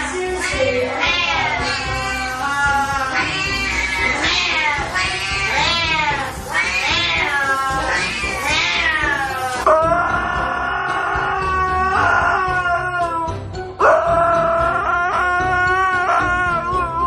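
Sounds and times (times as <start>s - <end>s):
cat yowling: 0.4s - 17.0s.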